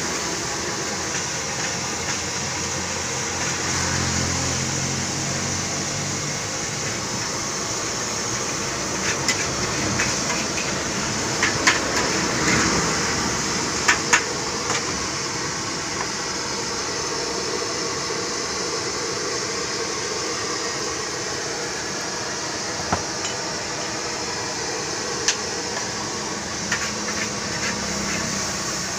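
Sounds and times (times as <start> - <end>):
gas burner running: 0.0 - 28.9.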